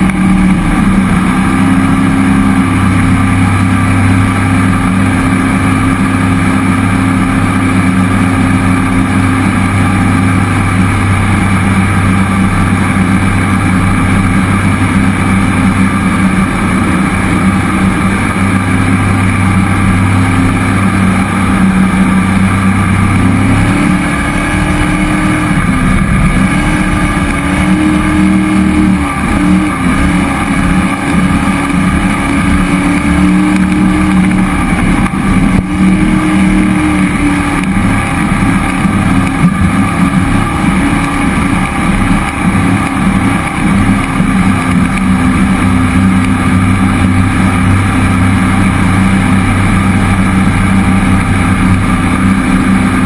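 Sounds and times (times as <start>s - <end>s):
boat engine revving: 0.0s - 53.0s.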